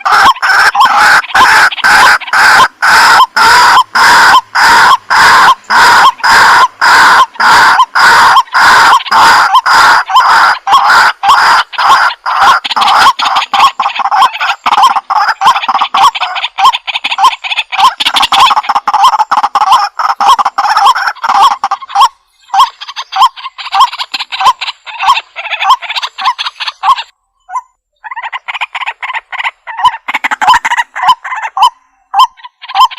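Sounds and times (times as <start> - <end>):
waterhen croaking calls: 0.0 - 32.9.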